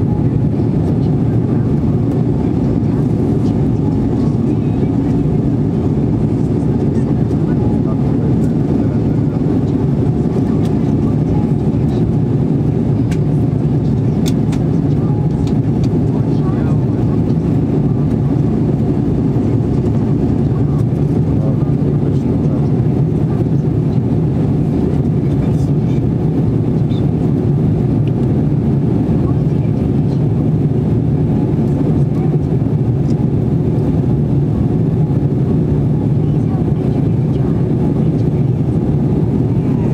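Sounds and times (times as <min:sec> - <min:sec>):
airliner engines and airflow rush: 0:00.0 - 0:39.9.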